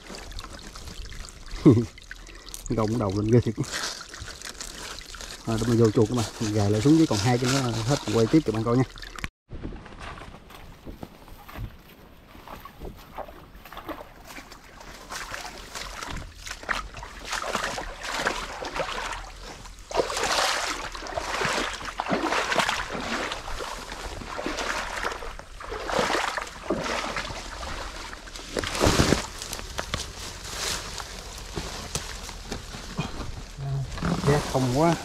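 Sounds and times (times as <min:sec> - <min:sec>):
footsteps through wet undergrowth: 0:00.0 - 0:35.0.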